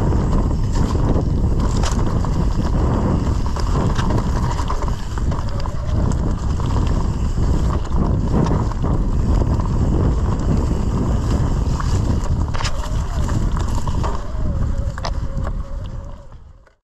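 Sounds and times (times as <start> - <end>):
tyres rumbling on dirt: 0.0 - 16.0
bike knocking and rattling: 0.0 - 16.1
wind buffeting microphone: 0.0 - 16.8.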